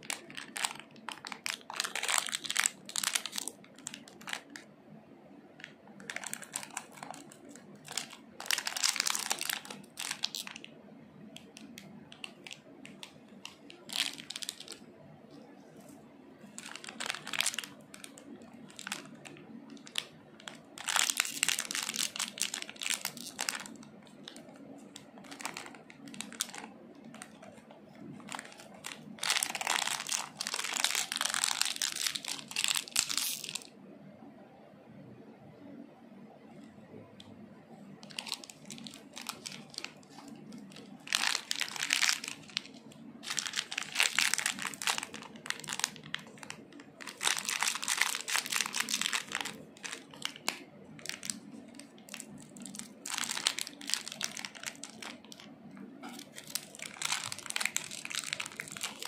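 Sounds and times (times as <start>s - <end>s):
plastic wrappers crinkling: 0.0s - 4.7s, 5.6s - 10.7s, 11.4s - 14.9s, 15.7s - 33.7s, 38.0s - 59.0s.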